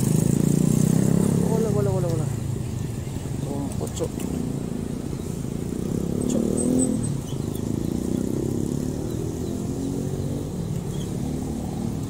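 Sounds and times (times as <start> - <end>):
motorcycles passing: 0.0 - 12.0.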